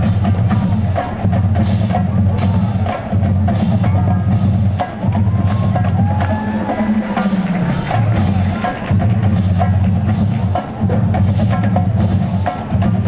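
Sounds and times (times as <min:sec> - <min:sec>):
strong low bass: 0:00.0 - 0:13.0.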